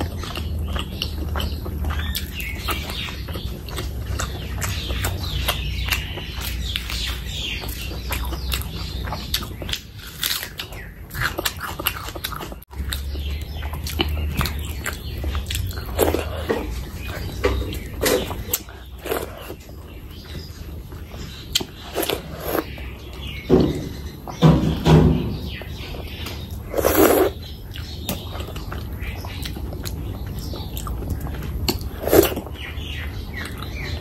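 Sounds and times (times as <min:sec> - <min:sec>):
chewing with wet mouth clicks: 0:00.0 - 0:23.4, 0:26.0 - 0:34.0.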